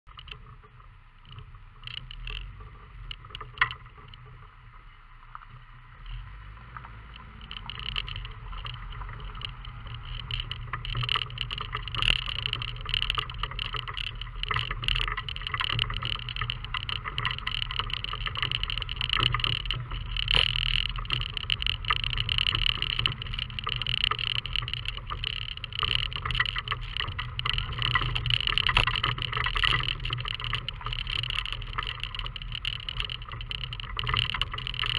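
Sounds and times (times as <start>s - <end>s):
knocks and rattles: 0.1s - 4.4s, 6.8s - 34.9s
car engine humming: 0.2s - 34.9s
tyres crunching on gravel: 1.8s - 34.9s.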